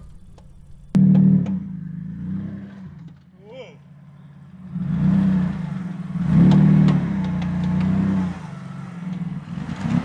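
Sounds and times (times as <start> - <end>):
car engine revving under load: 0.9 - 3.3, 4.0 - 10.0.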